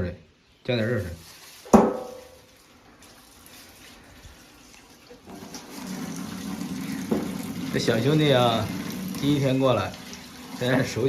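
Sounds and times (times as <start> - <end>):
water from hose into bucket: 0.7 - 11.0.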